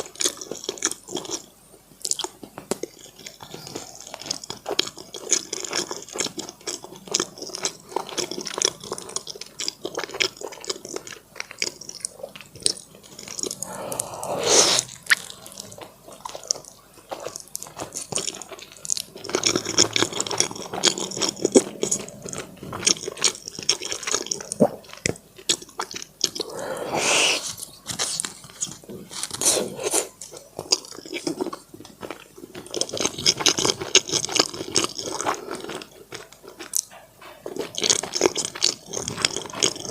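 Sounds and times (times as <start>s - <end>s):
wet chewing and mouth sounds: 0.0s - 39.9s.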